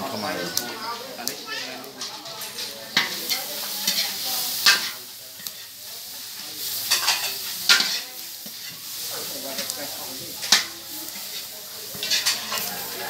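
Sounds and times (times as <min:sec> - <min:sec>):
chicken sizzling in a wok: 0:00.0 - 0:13.0
metal ladle scraping a wok: 0:01.9 - 0:13.0.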